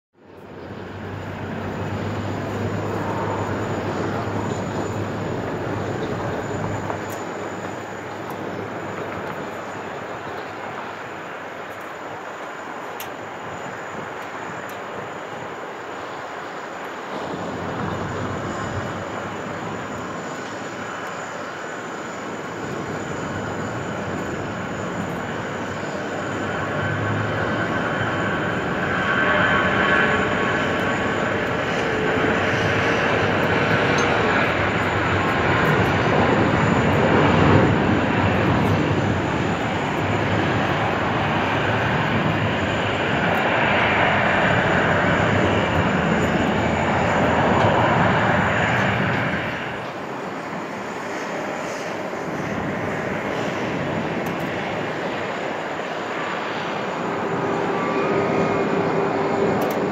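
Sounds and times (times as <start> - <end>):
jet engines running: 0.2 - 59.9.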